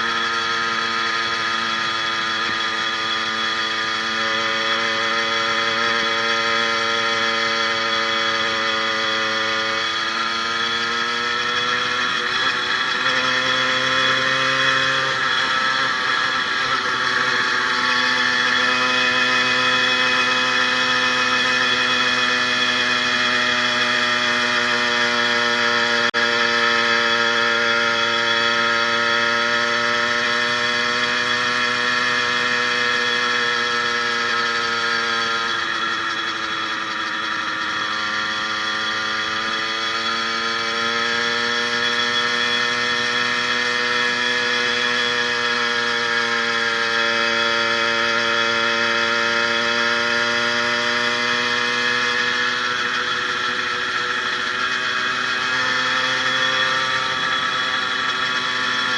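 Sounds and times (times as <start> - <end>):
two-stroke engine running: 0.0 - 58.9.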